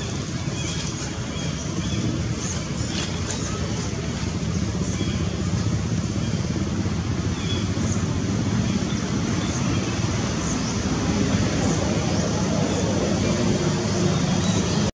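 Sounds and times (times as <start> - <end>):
low rumbling background noise: 0.0 - 14.9.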